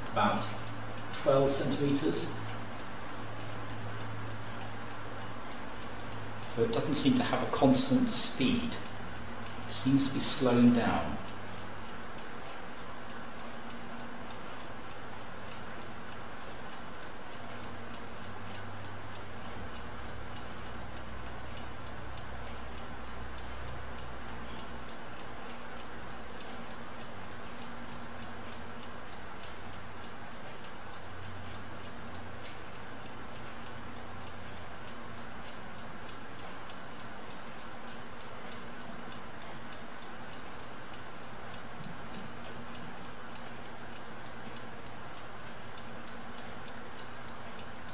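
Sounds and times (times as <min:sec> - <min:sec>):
mechanical clock ticking: 0:00.0 - 0:47.9.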